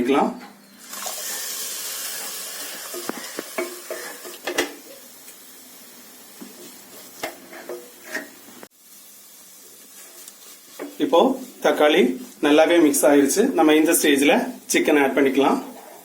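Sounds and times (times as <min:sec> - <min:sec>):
paste sizzling in hot oil: 0:00.8 - 0:16.0.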